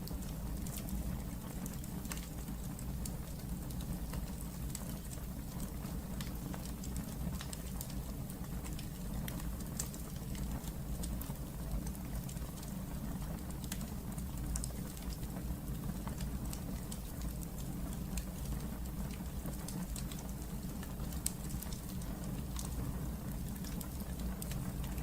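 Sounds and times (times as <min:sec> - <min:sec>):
wood fire burning: 0:00.0 - 0:25.0.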